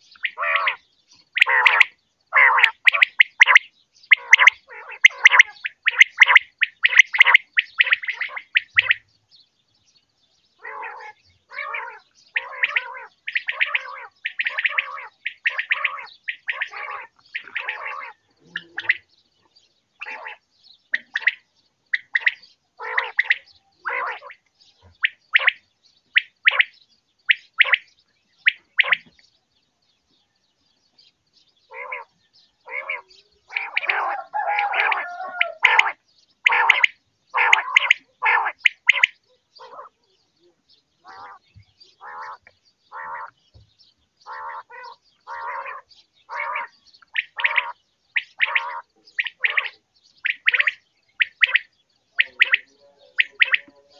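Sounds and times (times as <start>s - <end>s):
quail calling: 0.0s - 9.1s, 10.6s - 19.1s, 20.0s - 29.2s, 31.7s - 40.0s, 41.0s - 43.4s, 44.2s - 53.9s.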